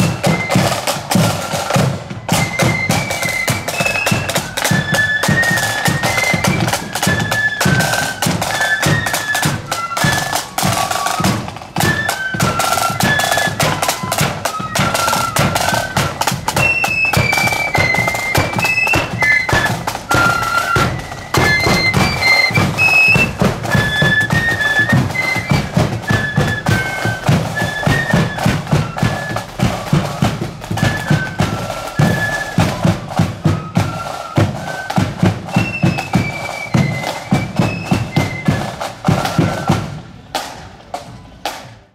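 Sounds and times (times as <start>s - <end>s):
shrill high melody: 2.3s - 39.7s.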